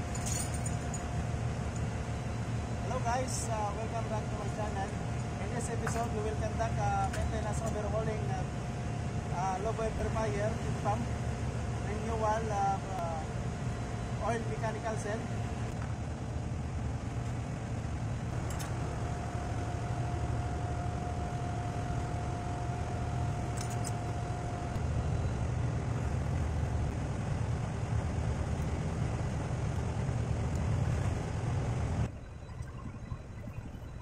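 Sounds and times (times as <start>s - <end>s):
faint steady whine: 0.0s - 34.0s
machinery drone: 0.0s - 34.0s.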